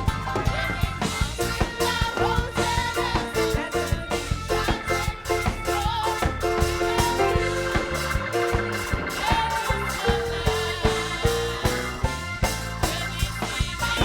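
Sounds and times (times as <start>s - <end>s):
driving drum beat: 0.0s - 14.0s
gospel worship music: 0.0s - 14.0s.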